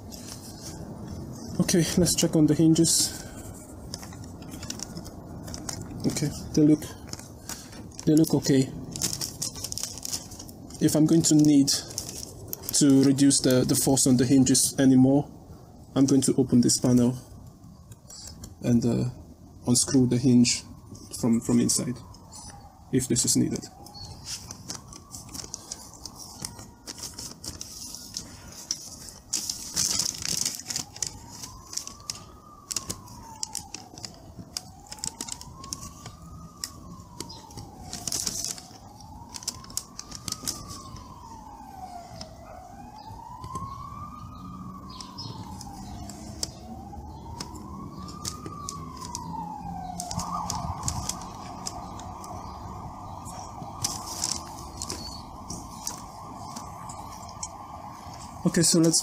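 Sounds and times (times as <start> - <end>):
emergency siren wailing: 0.0 - 59.0
sharp clicks and crackles: 3.4 - 13.8, 16.0 - 18.6, 23.6 - 59.0.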